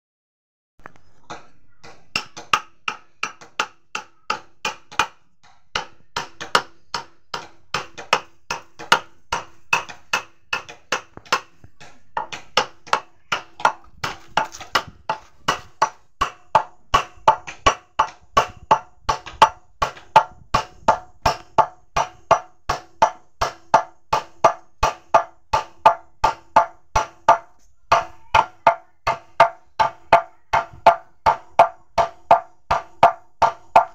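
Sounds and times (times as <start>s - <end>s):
hammer knocking on wooden handle: 1.3s - 33.9s.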